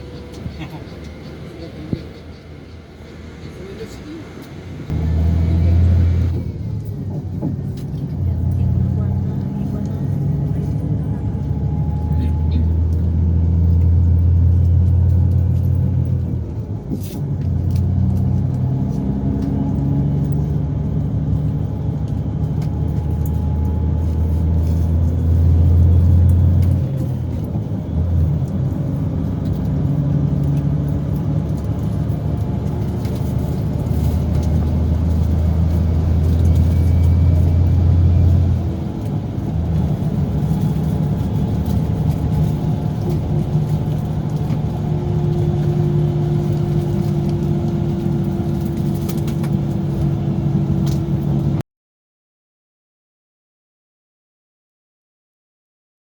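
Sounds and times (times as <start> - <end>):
diesel engine droning: 0.0 - 51.6.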